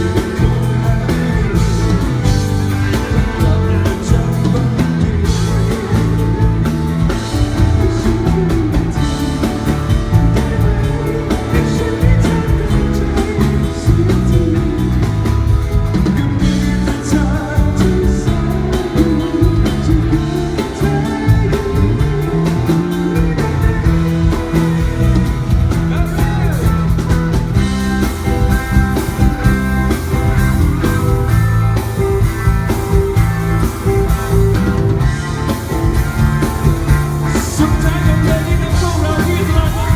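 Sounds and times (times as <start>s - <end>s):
rock-pop song with vocals: 0.0s - 39.9s.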